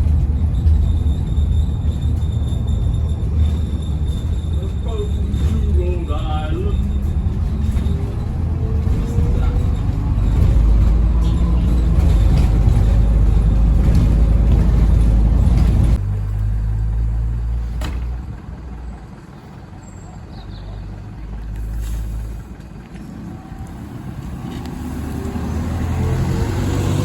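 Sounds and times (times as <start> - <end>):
heavy vehicle engine rumbling: 0.0 - 27.0.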